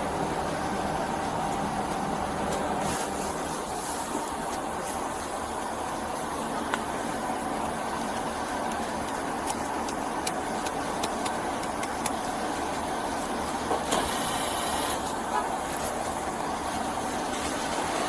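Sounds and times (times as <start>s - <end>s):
vehicle motor idling: 0.0s - 18.0s.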